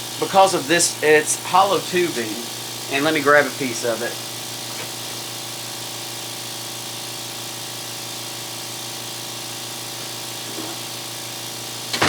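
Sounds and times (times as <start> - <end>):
electric vacuum pump humming: 0.0 - 12.0.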